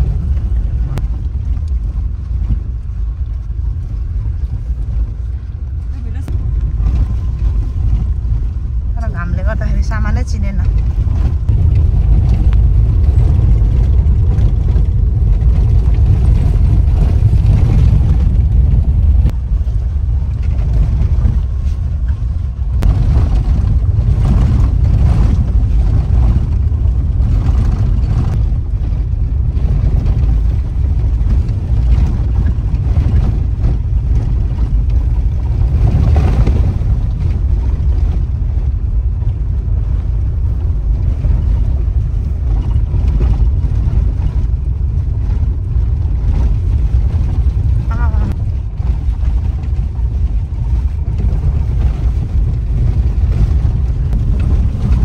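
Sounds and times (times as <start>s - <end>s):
vehicle on gravel road rumbling: 0.0s - 55.0s.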